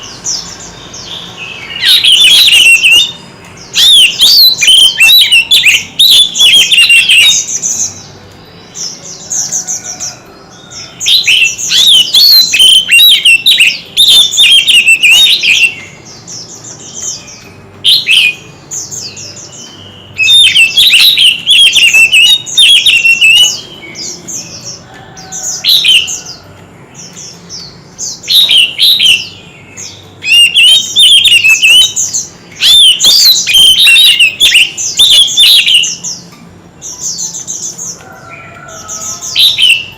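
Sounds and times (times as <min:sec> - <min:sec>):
bird whistling and chattering song: 0:00.0 - 0:10.1, 0:10.8 - 0:24.8, 0:25.4 - 0:26.4, 0:27.1 - 0:38.0, 0:38.6 - 0:39.9.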